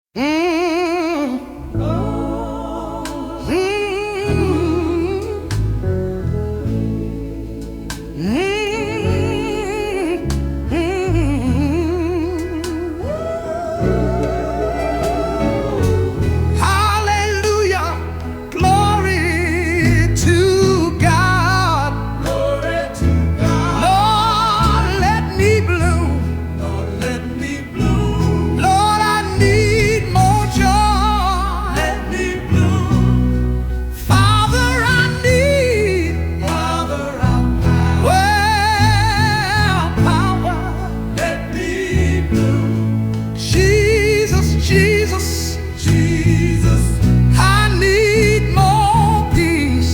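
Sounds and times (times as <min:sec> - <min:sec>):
person singing with vibrato: 0:00.2 - 0:05.8, 0:08.2 - 0:49.9
bass and instrumental backing: 0:00.2 - 0:49.9.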